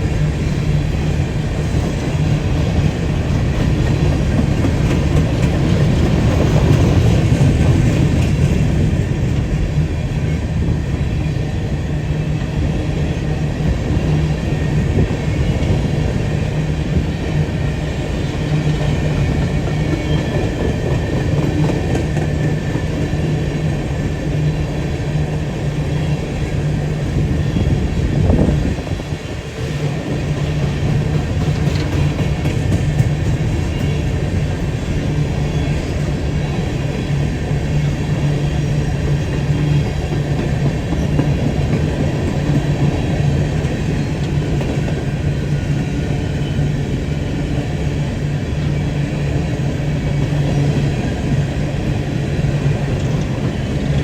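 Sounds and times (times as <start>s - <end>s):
diesel locomotive humming: 0.0s - 54.0s.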